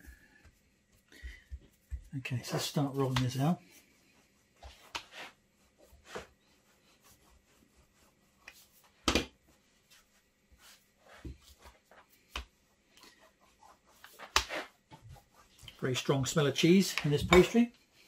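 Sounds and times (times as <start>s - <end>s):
rolling pin rubbing dough: 1.7s - 18.0s.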